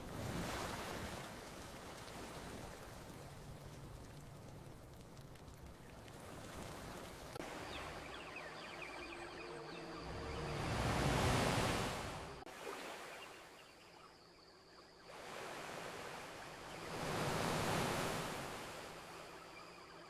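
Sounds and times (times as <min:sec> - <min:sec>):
ocean waves breaking: 0:00.0 - 0:14.0, 0:15.0 - 0:20.0.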